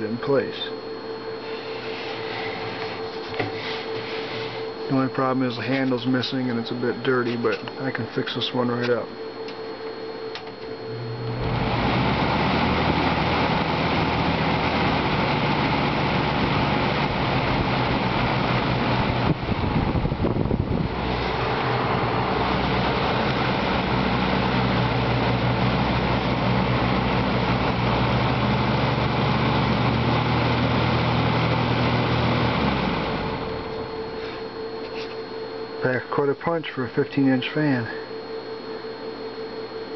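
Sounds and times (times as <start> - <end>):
box fan motor hum and air rush: 0.0 - 39.9.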